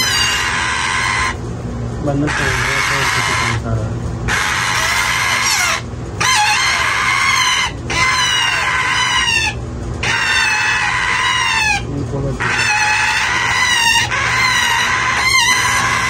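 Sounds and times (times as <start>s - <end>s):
parakeet chicks screeching: 0.0s - 1.4s, 2.2s - 16.0s
steady low hum: 0.0s - 16.0s.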